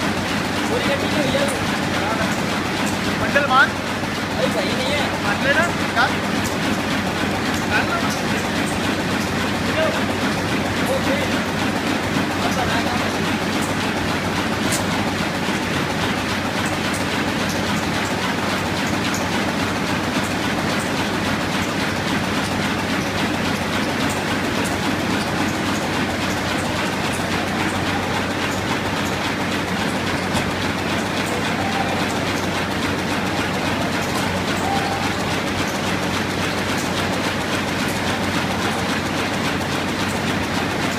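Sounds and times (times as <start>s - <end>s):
low machine hum: 0.0s - 40.9s
printing press clatter: 0.0s - 40.9s.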